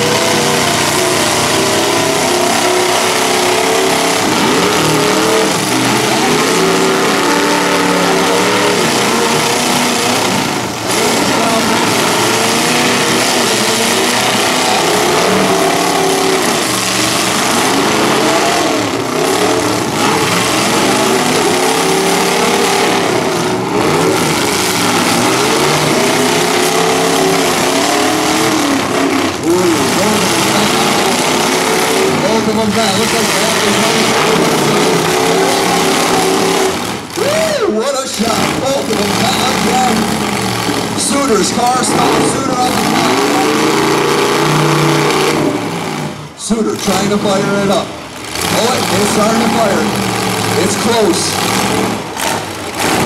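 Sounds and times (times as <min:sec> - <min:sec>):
car engines revving hard: 0:00.0 - 0:53.0
wheels spinning on dirt: 0:00.0 - 0:53.0.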